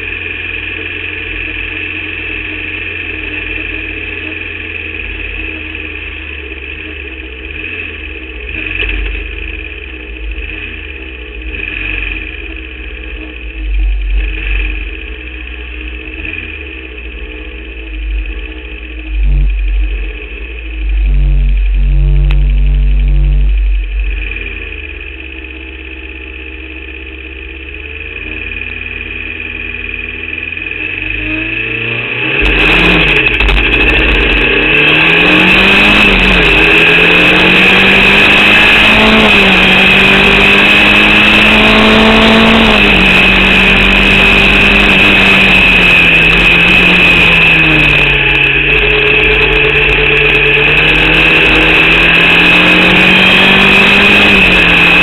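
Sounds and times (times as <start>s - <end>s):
high whine: 0.0s - 55.0s
race car engine revving: 0.0s - 55.0s.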